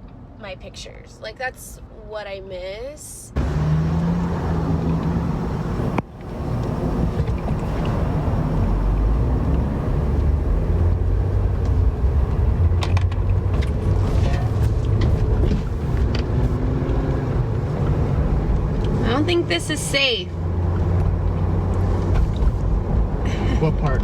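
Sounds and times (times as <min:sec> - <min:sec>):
moving car rumble: 0:03.3 - 0:24.0.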